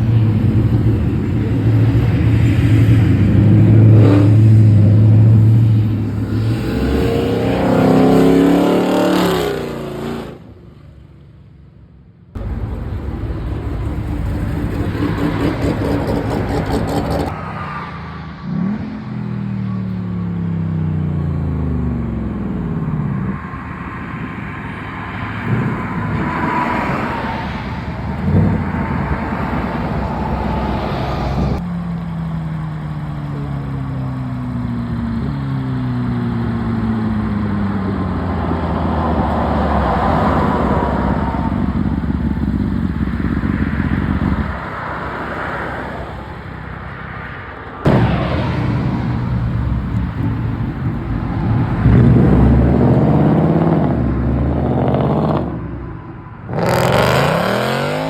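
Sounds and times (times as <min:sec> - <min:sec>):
car engines revving and accelerating: 0:00.0 - 0:10.6, 0:12.4 - 0:58.0.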